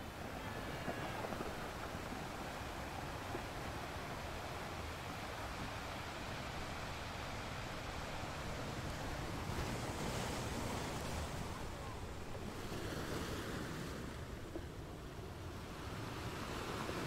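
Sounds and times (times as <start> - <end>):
low wind rumble: 0.0 - 17.0
waves breaking on beach: 0.0 - 17.0.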